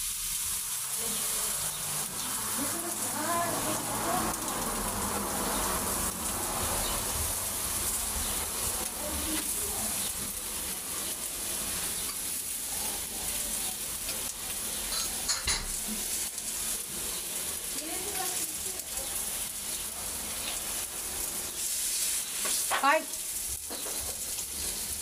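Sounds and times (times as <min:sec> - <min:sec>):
food sizzling on a griddle: 0:00.0 - 0:25.0.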